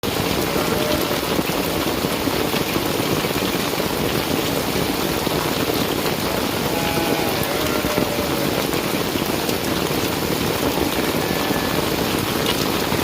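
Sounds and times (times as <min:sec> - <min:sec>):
steady rain pattering: 0:00.0 - 0:13.0.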